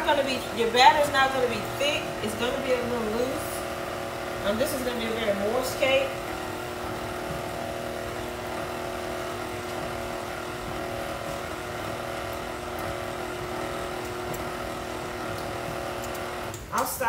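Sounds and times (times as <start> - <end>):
stand mixer motor hum: 0.0 - 16.8.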